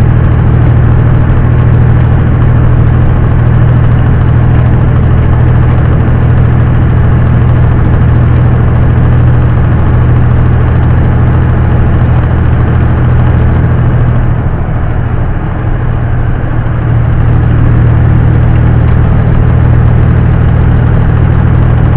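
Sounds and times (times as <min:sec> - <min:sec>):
road noise: 0:00.0 - 0:21.9
truck diesel engine droning: 0:00.0 - 0:21.9.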